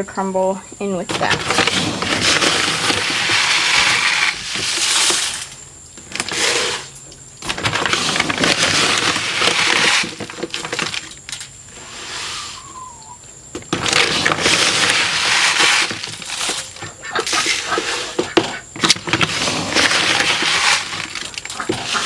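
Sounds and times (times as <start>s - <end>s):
grains pouring into a container: 1.1s - 12.6s, 13.7s - 22.0s.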